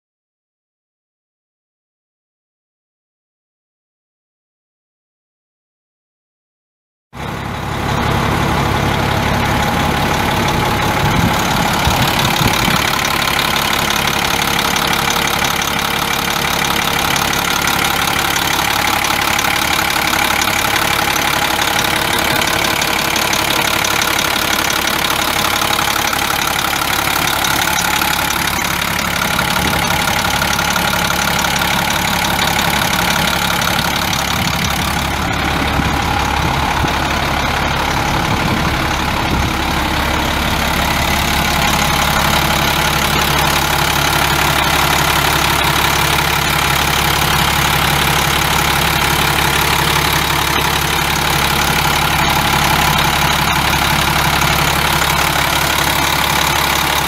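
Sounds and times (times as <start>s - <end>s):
diesel truck engine idling: 7.2s - 57.0s.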